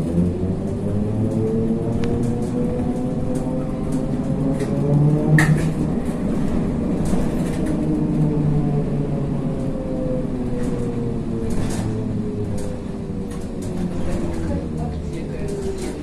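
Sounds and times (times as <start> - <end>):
trolleybus running rumble: 0.0 - 16.0.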